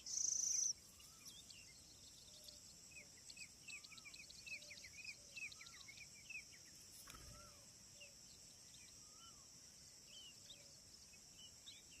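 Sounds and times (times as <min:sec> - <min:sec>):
birds chirping: 0:00.0 - 0:12.0
high insect drone: 0:00.0 - 0:12.0.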